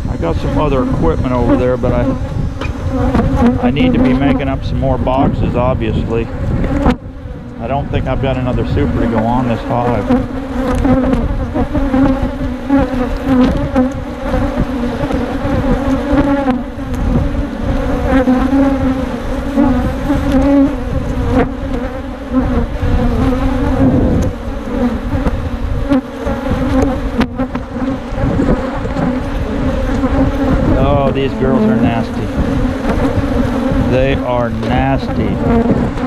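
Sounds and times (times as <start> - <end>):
honey bees buzzing: 0.0 - 36.0.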